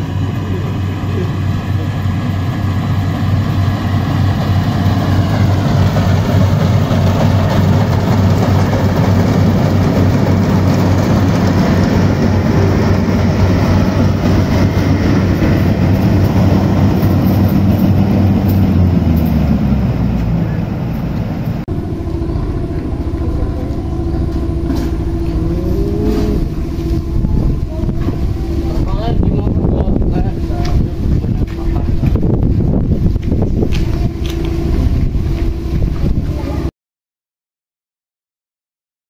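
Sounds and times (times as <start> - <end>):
combine harvester running: 0.0 - 36.7.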